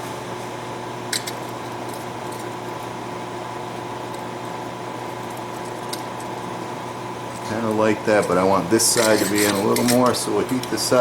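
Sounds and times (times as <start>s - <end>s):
shop equipment hiss and hum: 0.0s - 11.0s.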